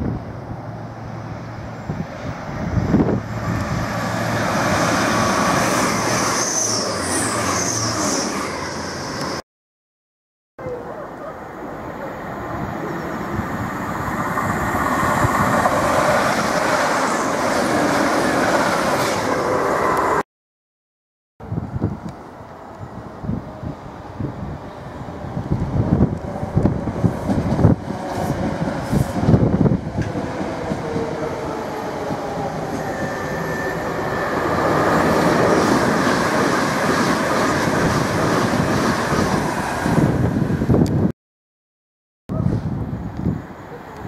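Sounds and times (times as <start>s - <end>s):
train low hum: 0.0s - 9.4s, 10.6s - 20.2s, 21.4s - 41.1s
wheel and rail rush: 0.0s - 9.4s, 10.6s - 20.2s, 21.4s - 41.1s
train approaching: 0.2s - 9.4s, 11.0s - 20.2s, 22.2s - 40.8s.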